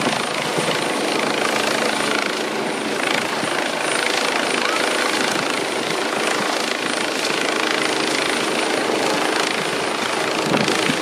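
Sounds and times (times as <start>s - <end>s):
helicopter hovering overhead: 0.0s - 11.0s.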